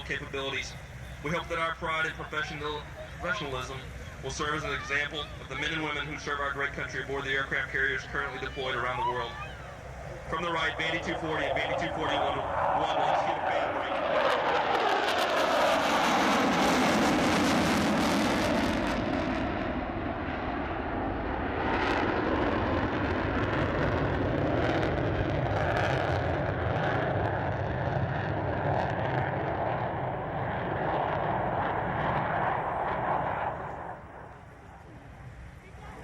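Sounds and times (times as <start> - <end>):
jet engines roaring past: 0.0 - 36.0.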